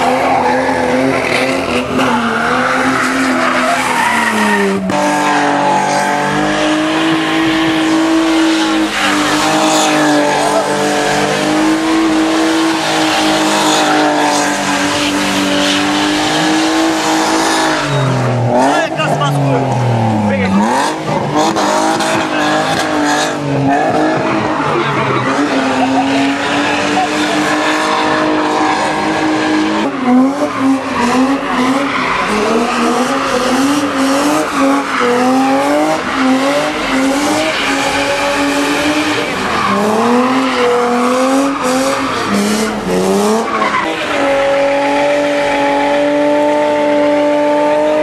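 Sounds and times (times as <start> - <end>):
car engine revving: 0.0 - 48.0
tyres squealing on asphalt: 0.0 - 48.0.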